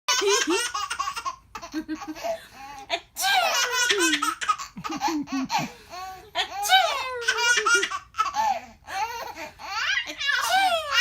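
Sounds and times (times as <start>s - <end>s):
baby laughing: 0.1s - 11.0s.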